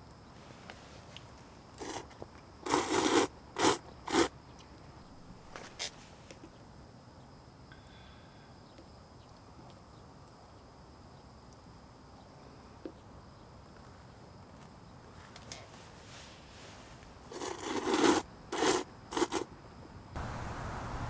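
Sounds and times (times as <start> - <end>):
faint insect drone: 0.0 - 21.0.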